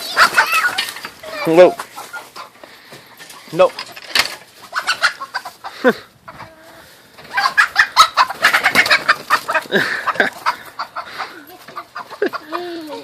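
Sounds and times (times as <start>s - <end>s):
chickens clucking and squawking: 0.0s - 13.0s.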